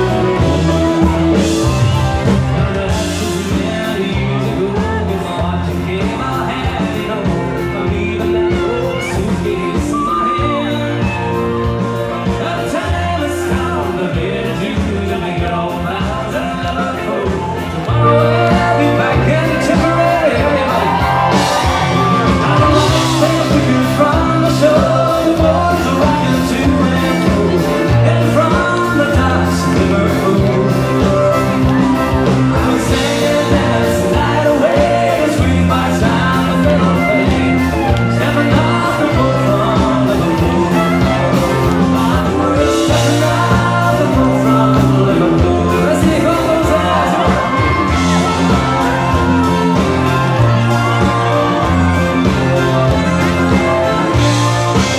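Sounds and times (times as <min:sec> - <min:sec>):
live country-pop band: 0:00.0 - 0:54.9
man singing: 0:00.0 - 0:54.9
piano accordion: 0:06.7 - 0:54.9.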